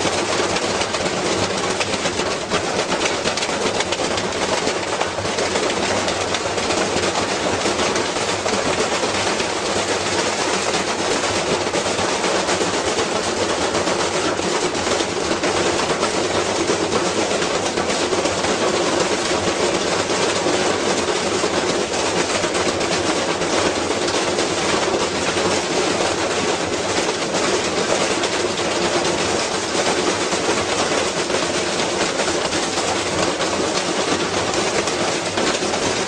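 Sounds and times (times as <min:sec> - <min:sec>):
off-balance washing machine banging: 0:00.0 - 0:36.0.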